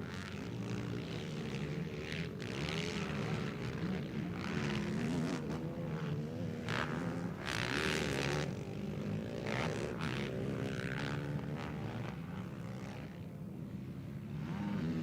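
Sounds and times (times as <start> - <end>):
quad bike engines revving: 0.0 - 15.0.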